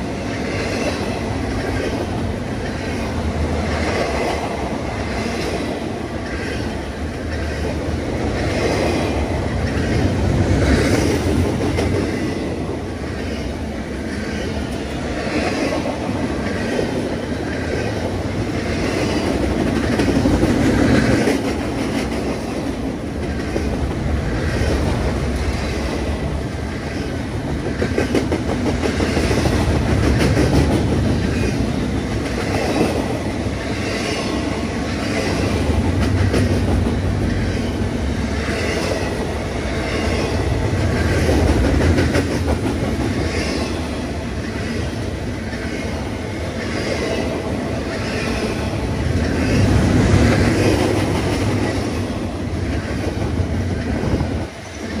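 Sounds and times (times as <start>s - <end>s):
freight train rumbling: 0.0s - 55.0s.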